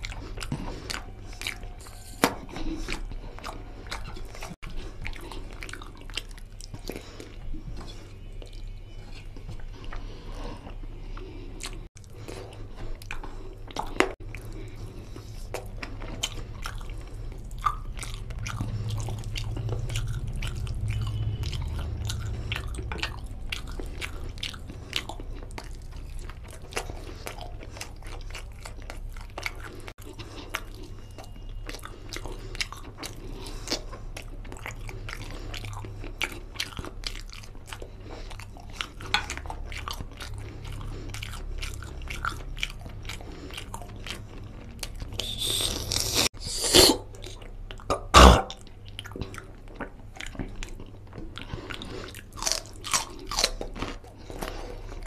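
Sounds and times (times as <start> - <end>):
chewing and mouth smacking: 0.0 - 55.0.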